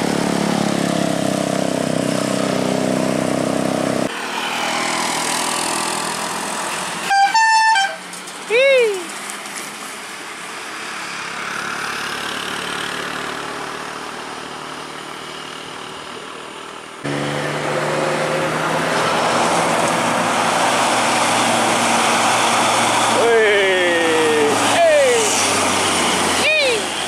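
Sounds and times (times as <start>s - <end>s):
tow truck engine pulling uphill: 0.0s - 27.0s
tanker truck engine humming: 5.2s - 27.0s.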